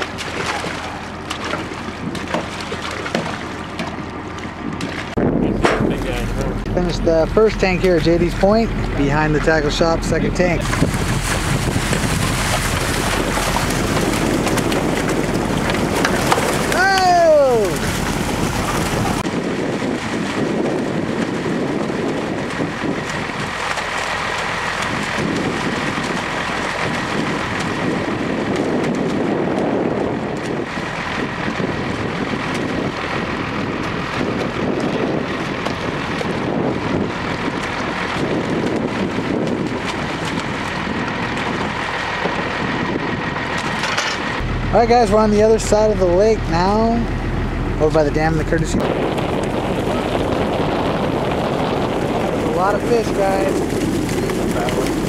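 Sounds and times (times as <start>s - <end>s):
water gushing and splashing: 0.0s - 55.0s
wind buffeting microphone: 0.0s - 55.0s.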